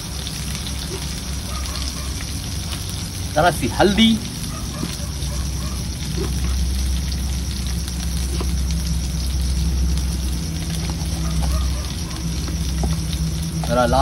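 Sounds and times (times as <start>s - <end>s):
chillies sizzling in oil: 0.0s - 14.0s
steady low rumble: 0.0s - 14.0s.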